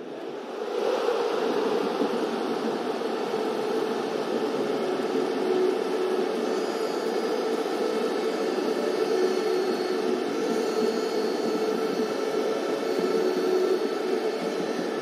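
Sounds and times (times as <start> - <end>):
faint hum: 0.0 - 15.0
steady hiss: 0.0 - 15.0.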